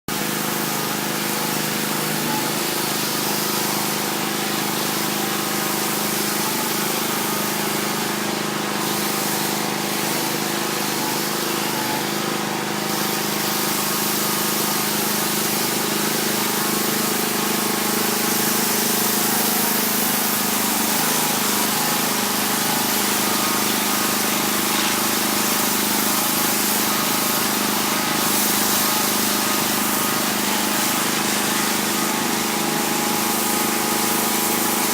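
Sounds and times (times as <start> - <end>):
pressure washer pump hum: 0.1 - 34.9
water jet hissing: 0.1 - 34.9.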